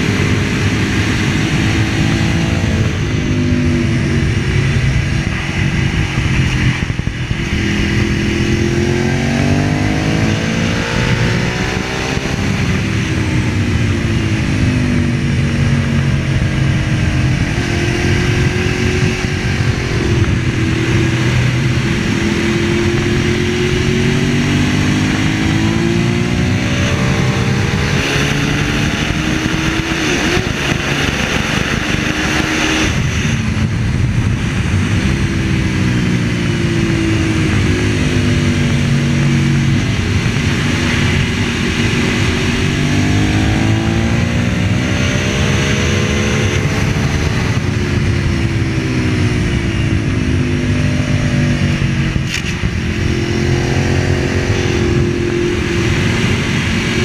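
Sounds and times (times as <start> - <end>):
motorcycle engine revving at speed: 0.0 - 57.0
wind rush: 0.0 - 57.0.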